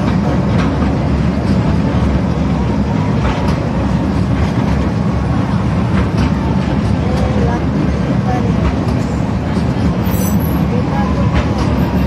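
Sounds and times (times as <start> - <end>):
small train rumbling on track: 0.0 - 12.0
train wheels clicking: 0.0 - 12.0.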